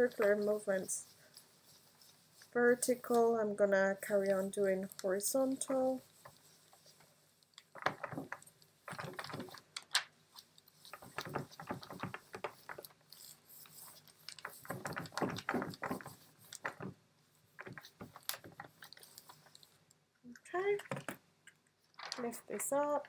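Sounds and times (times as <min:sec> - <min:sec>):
baren rubbing on acetate: 0:00.0 - 0:19.8.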